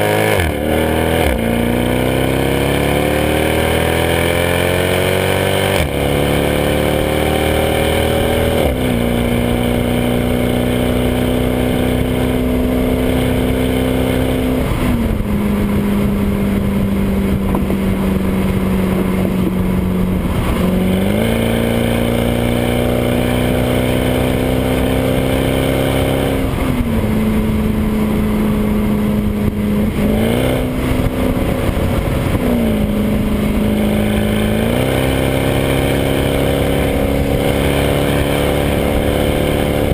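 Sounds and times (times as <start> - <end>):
car exhaust droning at speed: 0.0 - 39.9.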